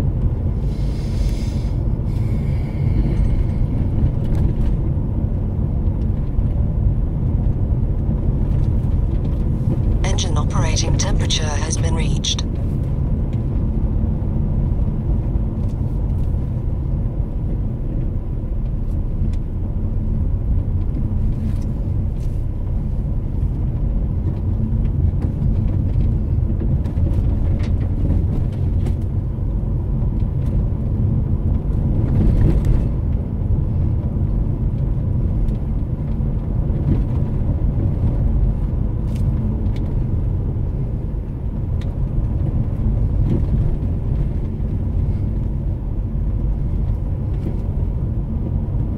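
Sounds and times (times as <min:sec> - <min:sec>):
engine and tyre rumble in car: 0:00.0 - 0:10.4, 0:12.3 - 0:48.9.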